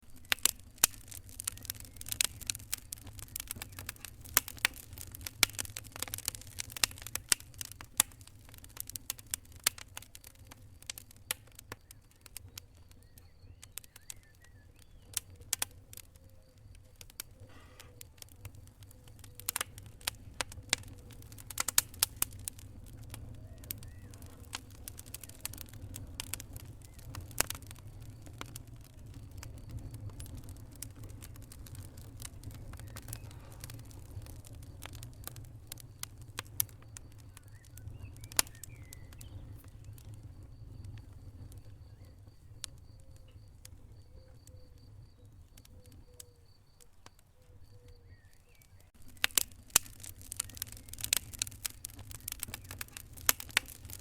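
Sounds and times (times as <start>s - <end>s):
log fire crackling and popping: 0.0s - 54.0s.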